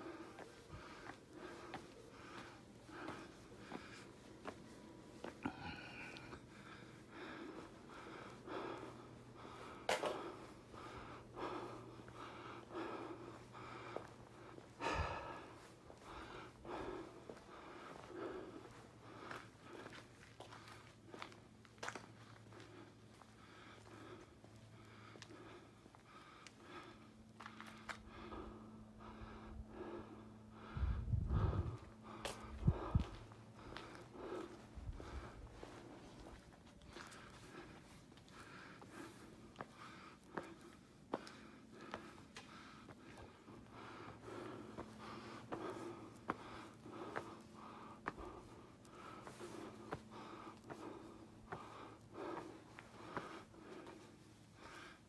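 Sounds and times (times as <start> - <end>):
person breathing hard: 0.0 - 55.0.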